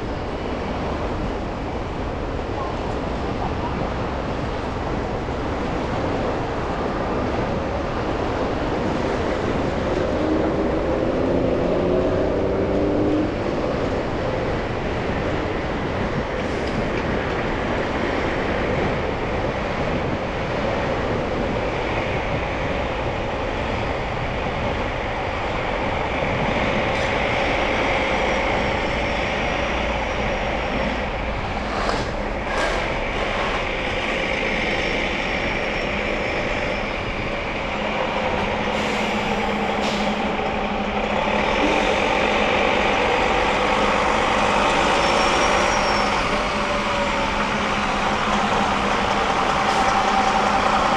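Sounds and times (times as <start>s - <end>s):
tyres on wet road: 0.0s - 50.9s
vehicles passing: 0.0s - 50.9s.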